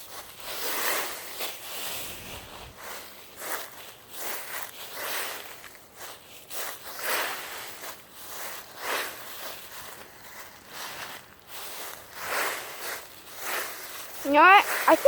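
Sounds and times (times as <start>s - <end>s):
rustling through a pile: 0.0s - 15.0s.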